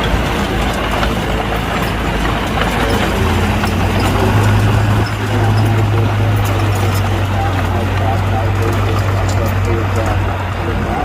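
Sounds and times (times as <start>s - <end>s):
heavy machinery engine running: 0.0s - 11.0s
light clattering: 0.0s - 11.0s.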